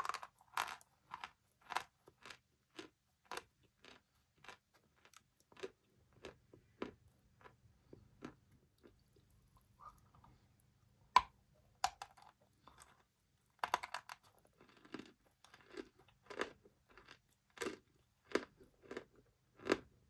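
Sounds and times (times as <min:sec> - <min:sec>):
crunchy chewing: 0:00.0 - 0:10.4, 0:11.9 - 0:20.0.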